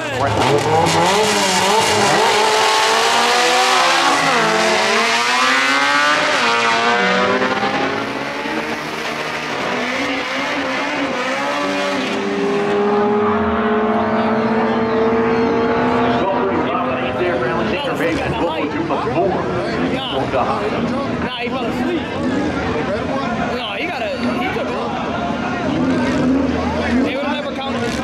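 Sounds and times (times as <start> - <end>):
race car engines accelerating: 0.0 - 28.0.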